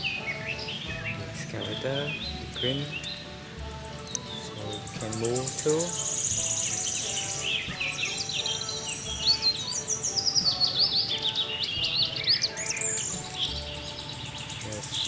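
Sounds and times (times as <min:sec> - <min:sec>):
birds singing: 0:00.0 - 0:15.0
soft background music: 0:00.0 - 0:15.0.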